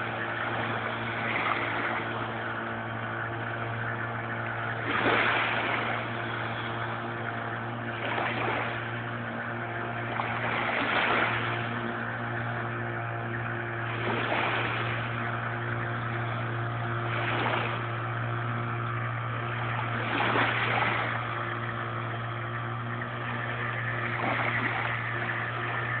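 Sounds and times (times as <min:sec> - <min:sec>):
low hum: 0:00.0 - 0:26.0
small waves washing on shore: 0:00.0 - 0:26.0.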